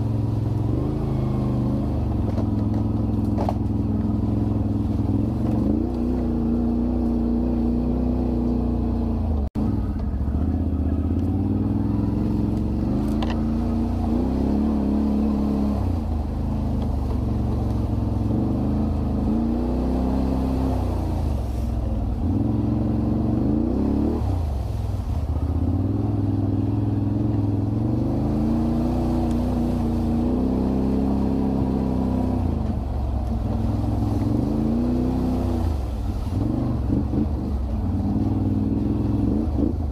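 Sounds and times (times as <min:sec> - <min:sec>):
atv engines revving: 0:00.0 - 0:39.9.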